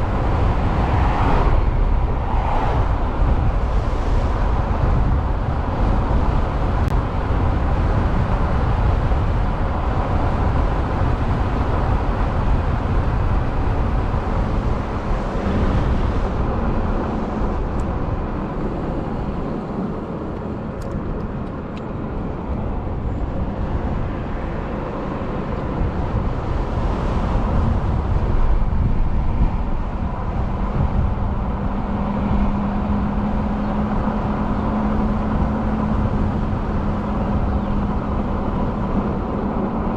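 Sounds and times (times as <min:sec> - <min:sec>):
wind and road rush: 0:00.0 - 0:39.9.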